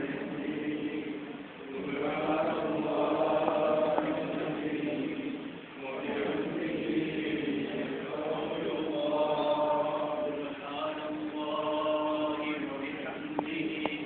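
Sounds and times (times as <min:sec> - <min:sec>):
person chanting religious recitation: 0:00.0 - 0:14.0.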